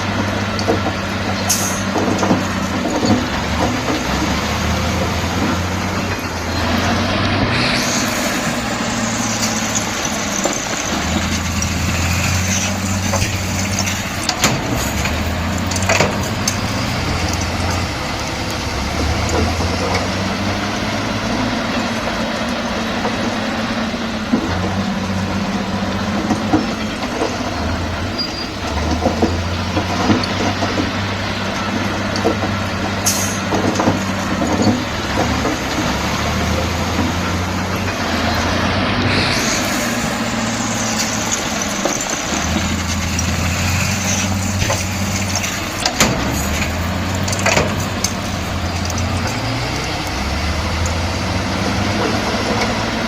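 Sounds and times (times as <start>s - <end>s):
bulldozer diesel engine under load: 0.0s - 53.0s
metallic clanks and knocks: 0.0s - 53.0s.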